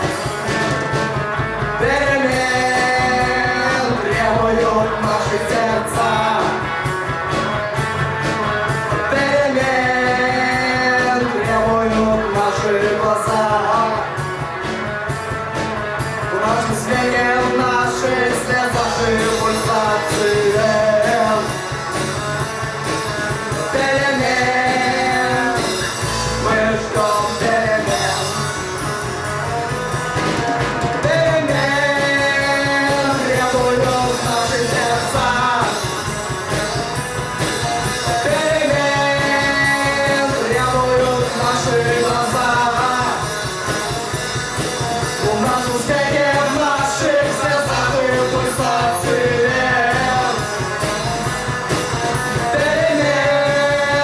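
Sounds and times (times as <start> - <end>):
electric guitar: 0.0 - 54.0
rock band music: 0.0 - 54.0.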